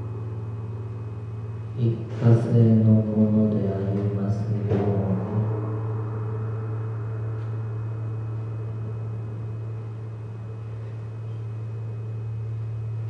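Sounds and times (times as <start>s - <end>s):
deep steady drone: 0.0s - 13.0s
faint higher tones: 0.0s - 13.0s.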